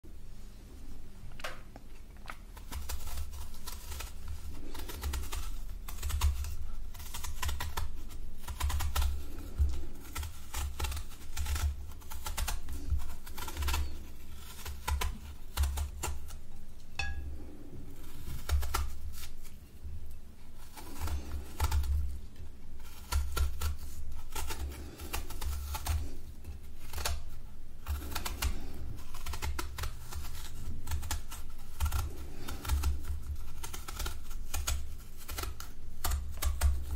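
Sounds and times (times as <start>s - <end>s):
knife peeling fruit skin: 1.4s - 36.9s.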